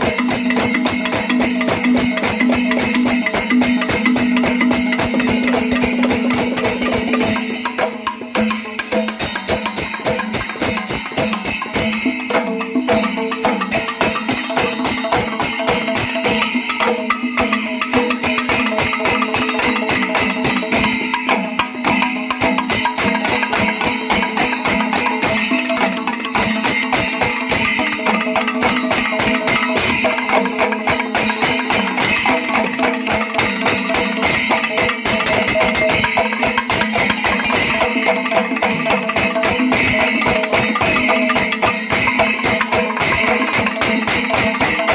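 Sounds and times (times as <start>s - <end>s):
drums playing rapid strokes: 0.0s - 44.9s
hand cymbals clashing: 0.0s - 44.9s.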